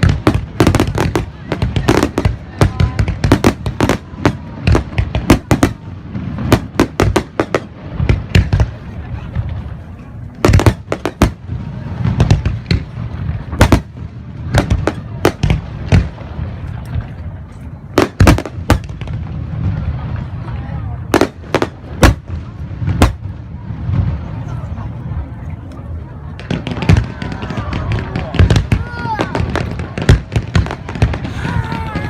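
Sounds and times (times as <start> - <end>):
fireworks bangs: 0.0 - 25.5, 26.2 - 32.0.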